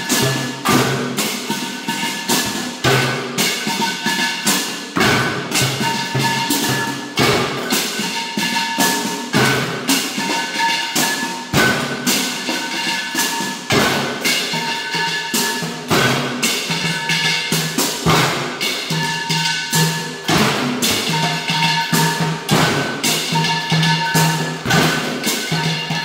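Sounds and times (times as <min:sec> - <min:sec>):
drum strikes: 0:00.0 - 0:26.0
ringing metallic tones: 0:00.0 - 0:26.0.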